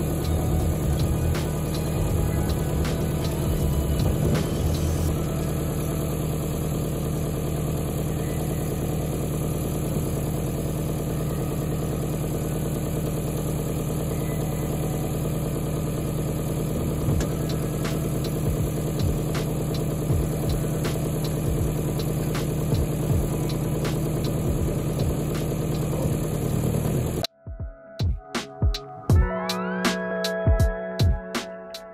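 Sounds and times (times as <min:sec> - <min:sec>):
diesel engine idling: 0:00.0 - 0:27.3.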